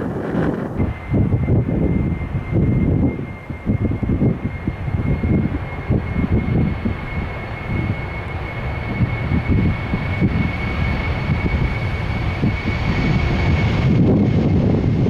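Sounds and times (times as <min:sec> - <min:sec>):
deep engine rumble: 0:00.0 - 0:15.0
jet engine whine: 0:00.0 - 0:15.0.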